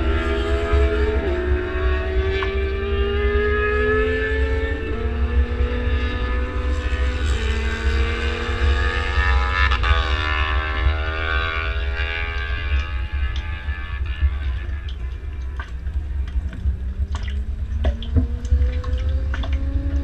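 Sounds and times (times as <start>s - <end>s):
motorcycle engine revving: 0.0s - 20.0s
wind rumble on microphone: 0.0s - 20.0s.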